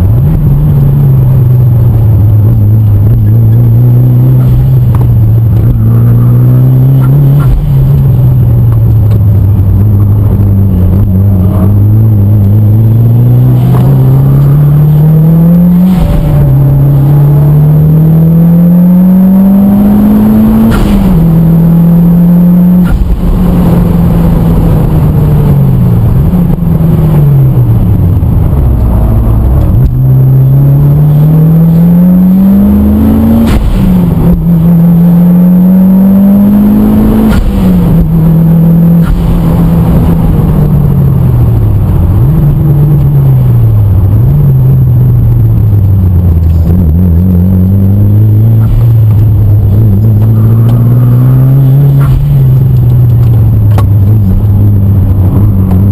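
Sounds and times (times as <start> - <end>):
car engine revving through gears: 0.0 - 55.9.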